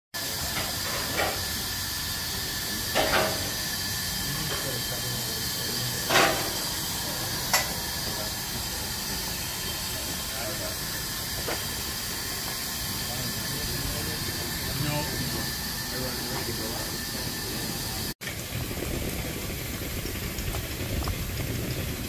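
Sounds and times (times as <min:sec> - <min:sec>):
bursts of steam hiss: 0:00.2 - 0:22.0
steam hissing from locomotive: 0:00.2 - 0:22.0.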